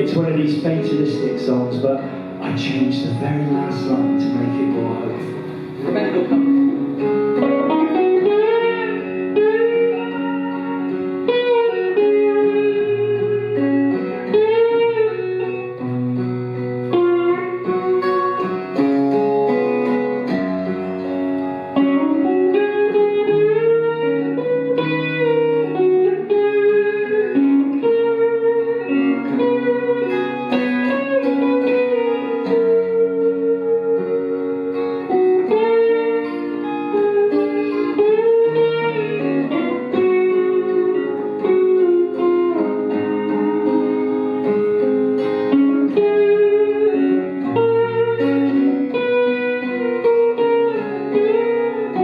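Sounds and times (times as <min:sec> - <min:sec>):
blues guitar: 0:00.0 - 0:52.0.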